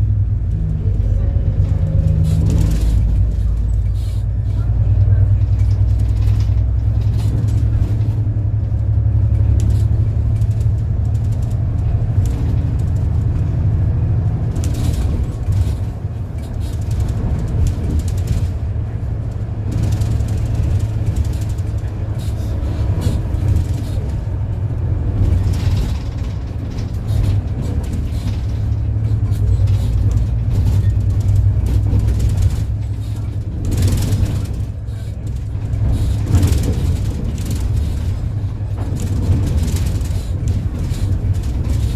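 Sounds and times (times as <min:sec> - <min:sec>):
bus engine droning: 0:00.0 - 0:41.9.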